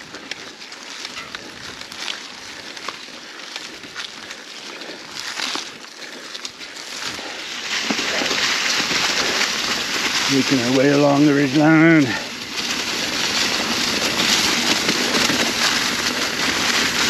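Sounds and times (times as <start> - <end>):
bike tyres crackling over dry leaves: 0.0 - 17.0.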